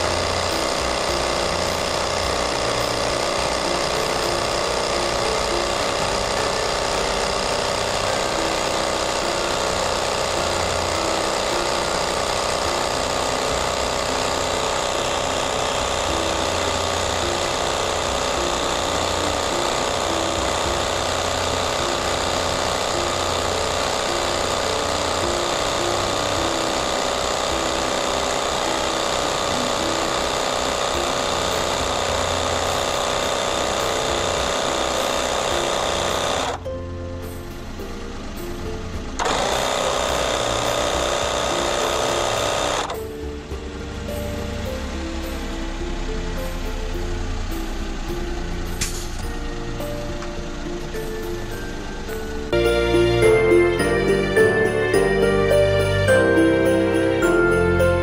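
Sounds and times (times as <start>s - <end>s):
portable air compressor running: 0.0s - 36.7s, 37.4s - 58.0s.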